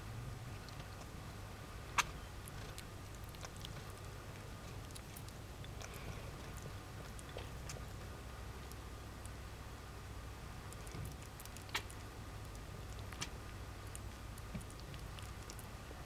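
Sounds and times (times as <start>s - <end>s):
low steady hum: 0.0s - 16.0s
kitten sucking and chewing paw: 0.5s - 16.0s.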